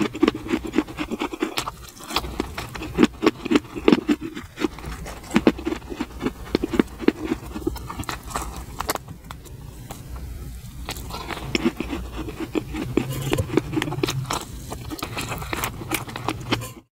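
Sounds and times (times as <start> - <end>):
chewing with mouth clicks: 0.0 - 10.0, 10.8 - 16.8.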